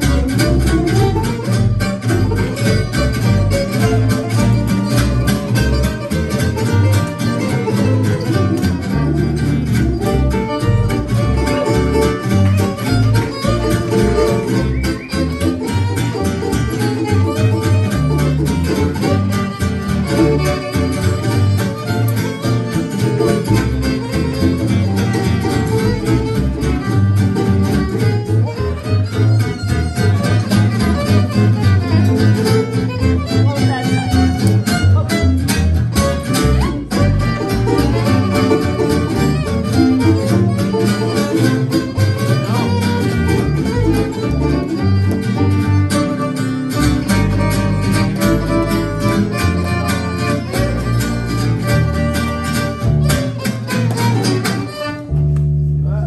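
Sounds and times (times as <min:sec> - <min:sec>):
fiddle melody: 0:00.0 - 0:56.0
strummed acoustic guitars: 0:00.0 - 0:56.0.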